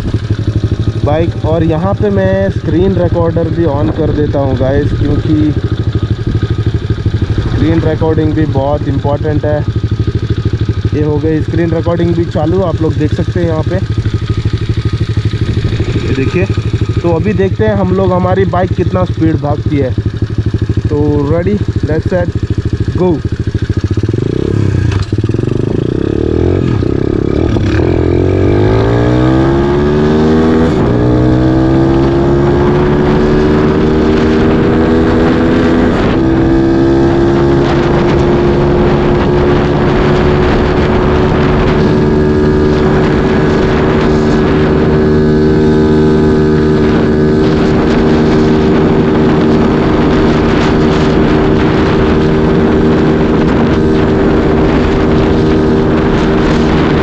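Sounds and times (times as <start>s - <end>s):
dirt bike engine at full throttle: 0.0s - 57.0s.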